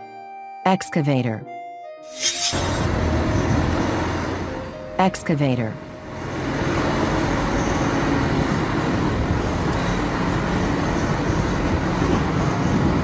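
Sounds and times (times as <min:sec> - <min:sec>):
excavator diesel engine running: 0:02.2 - 0:13.0.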